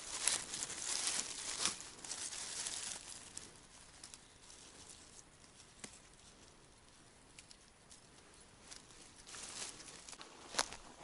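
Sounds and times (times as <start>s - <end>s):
rustling of dry pine needles: 0.0s - 11.0s.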